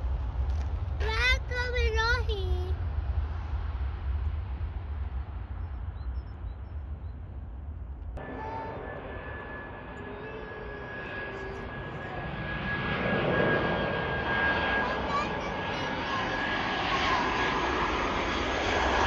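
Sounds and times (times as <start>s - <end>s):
high-pitched jet engine whine: 0.0s - 19.0s
jet engine rumble: 0.0s - 19.0s.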